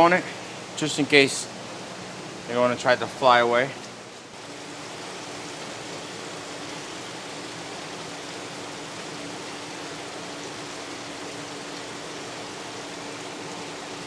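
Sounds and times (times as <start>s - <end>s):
aquarium water flow hiss: 0.0s - 14.0s.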